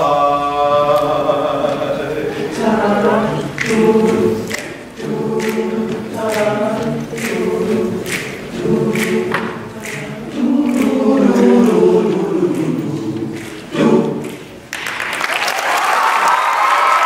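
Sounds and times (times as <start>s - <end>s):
male choir singing a cappella: 0.0s - 14.6s.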